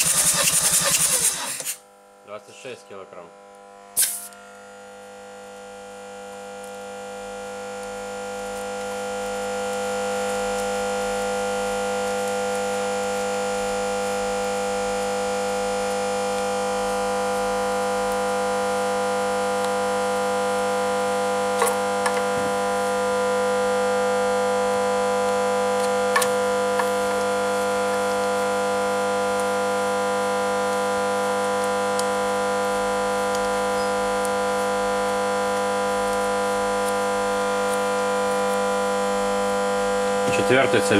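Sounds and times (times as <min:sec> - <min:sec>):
siren-like hum of held tones: 0:03.8 - 0:40.9.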